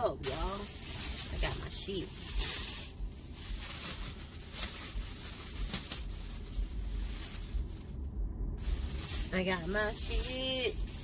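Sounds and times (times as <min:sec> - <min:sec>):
plastic bag rustling: 0:00.0 - 0:08.0, 0:08.6 - 0:11.0.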